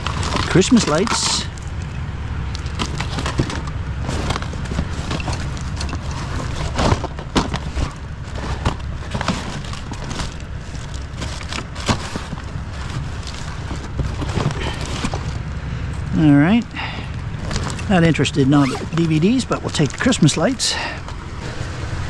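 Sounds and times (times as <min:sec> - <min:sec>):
plastic cases clattering: 0:00.0 - 0:01.9, 0:02.6 - 0:15.5, 0:17.4 - 0:21.7
steady low rumble: 0:00.0 - 0:22.0.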